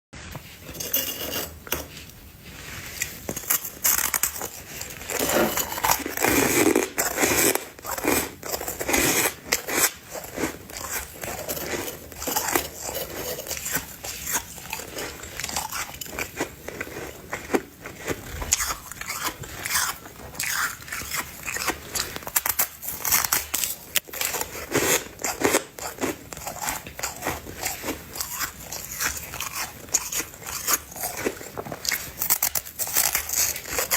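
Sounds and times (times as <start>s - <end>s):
person crunching ice: 3.0s - 33.9s.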